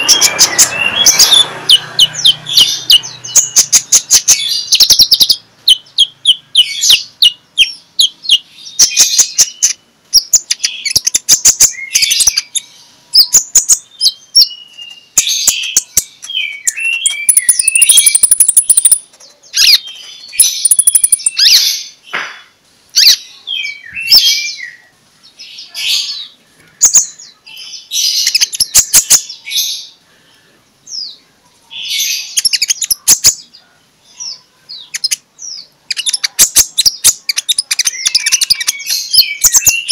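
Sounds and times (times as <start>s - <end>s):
bird song chirps and trills: 0.0s - 39.9s.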